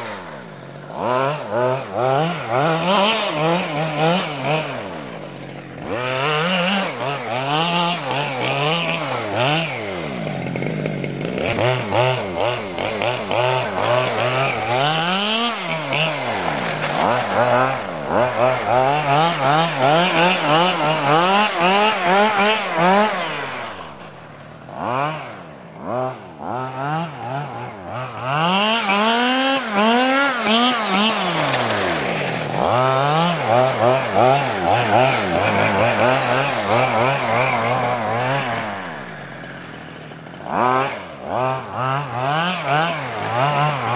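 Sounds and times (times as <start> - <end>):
two-stroke engine revving: 0.0 - 43.9.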